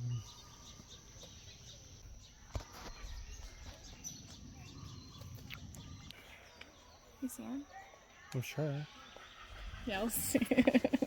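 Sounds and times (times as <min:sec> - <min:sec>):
bird chirps: 0:00.0 - 0:10.4.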